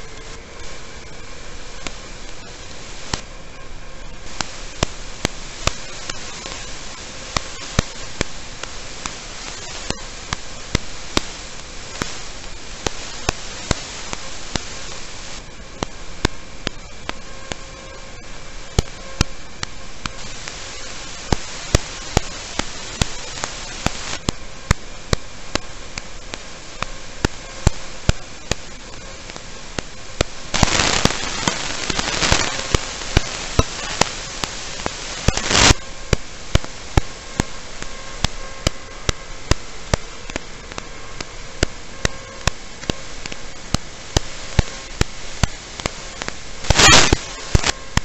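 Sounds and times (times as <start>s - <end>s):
static hiss: 0.0s - 48.0s
sharp clicks: 1.8s - 3.3s, 4.3s - 17.6s, 18.7s - 48.0s.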